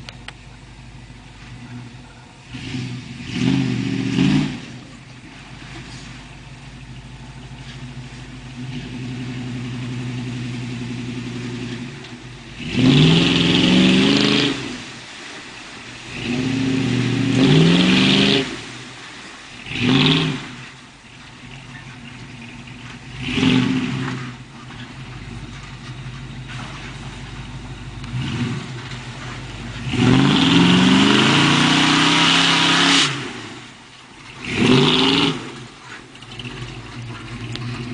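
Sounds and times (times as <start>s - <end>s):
truck engine idling and revving: 0.0s - 37.9s.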